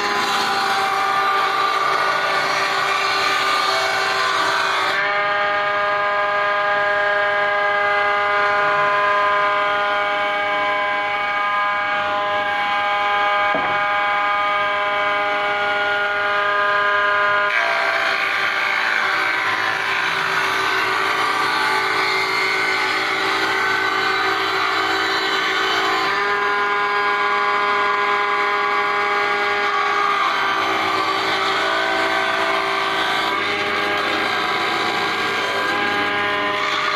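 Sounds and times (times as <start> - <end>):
table saw motor whine: 0.0 - 36.9.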